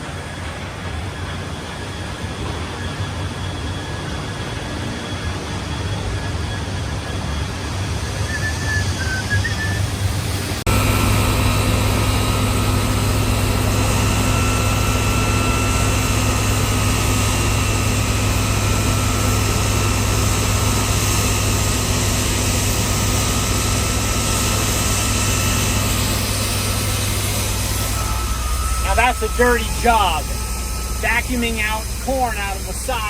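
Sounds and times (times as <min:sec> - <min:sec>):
large machine droning: 0:00.0 - 0:33.0.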